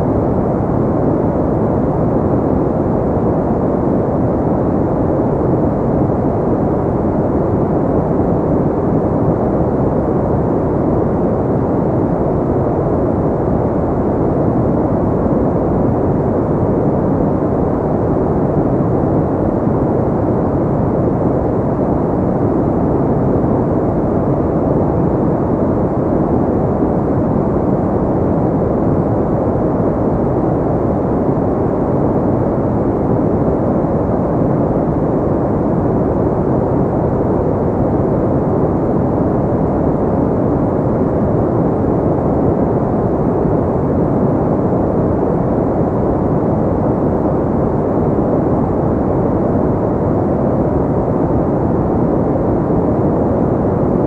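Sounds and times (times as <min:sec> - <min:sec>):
muffled pink noise hiss: 0:00.0 - 0:54.0.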